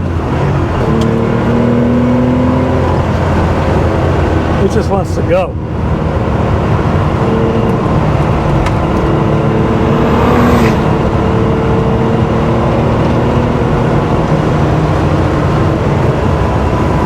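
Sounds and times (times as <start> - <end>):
car engine and exhaust under load: 0.0 - 17.0.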